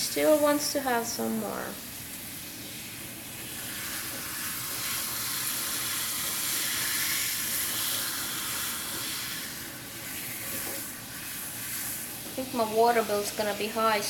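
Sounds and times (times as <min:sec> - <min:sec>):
faucet sprayer hissing: 0:00.0 - 0:14.0.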